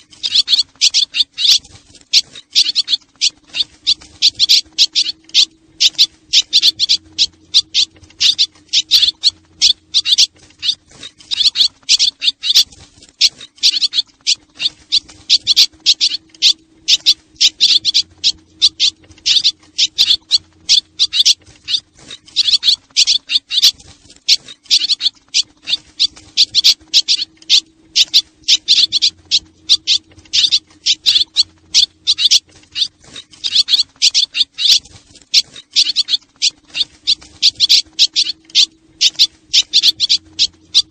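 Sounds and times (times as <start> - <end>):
faint low hum: 0.0 - 40.9
swallows twittering: 0.0 - 40.9.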